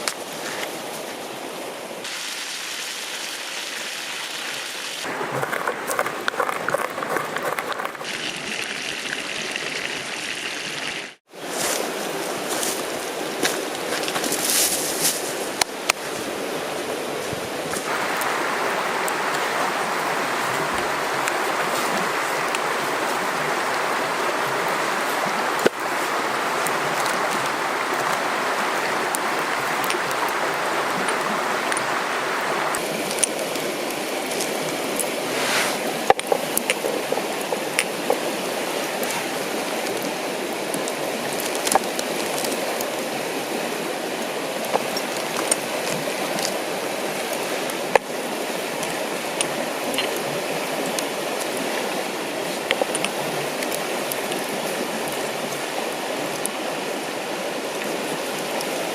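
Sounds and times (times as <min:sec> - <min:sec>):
river water running: 0:00.0 - 0:58.9.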